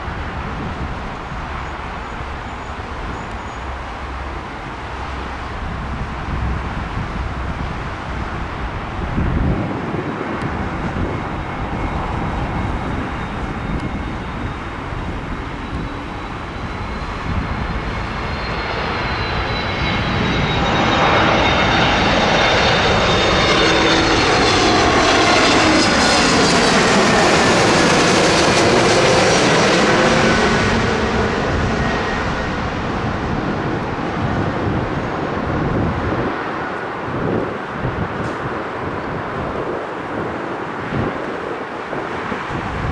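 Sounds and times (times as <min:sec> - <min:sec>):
airliner passing overhead: 0:00.0 - 0:42.9.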